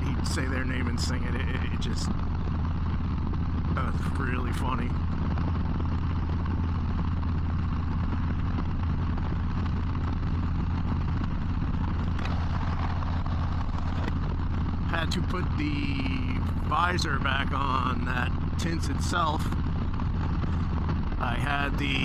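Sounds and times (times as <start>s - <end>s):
motorcycle engine drone: 0.0s - 22.0s.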